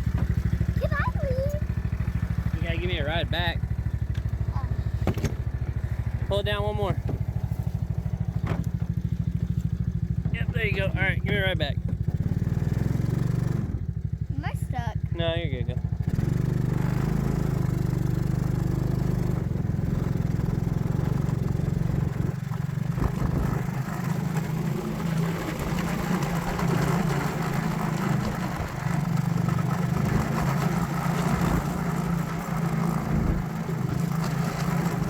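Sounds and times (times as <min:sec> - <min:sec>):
vehicle engine droning: 0:00.0 - 0:35.0.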